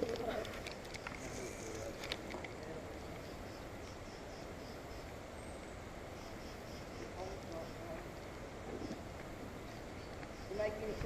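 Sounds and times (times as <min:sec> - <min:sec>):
faint background rush: 0:00.0 - 0:11.0.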